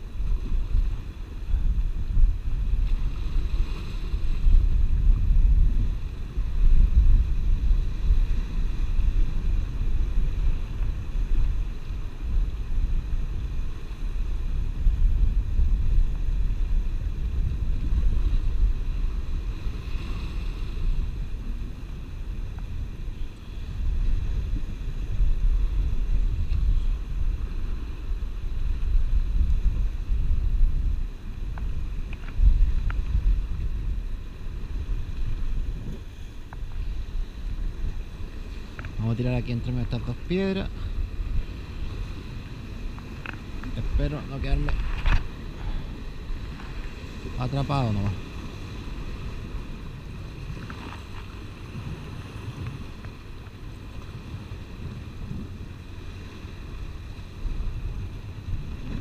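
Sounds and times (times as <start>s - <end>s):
sea surf washing on rocks: 0.0s - 59.0s
wind buffeting microphone: 0.0s - 59.0s.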